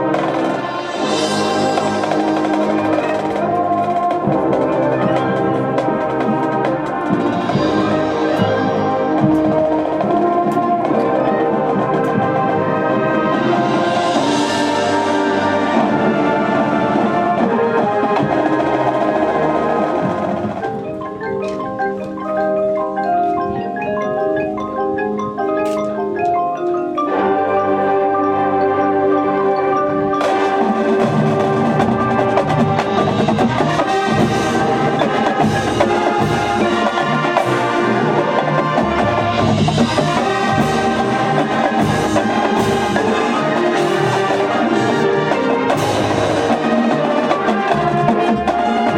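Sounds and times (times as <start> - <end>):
ringing mallet percussion notes: 0.0 - 16.4, 20.0 - 48.9
marching band playing: 0.0 - 48.9.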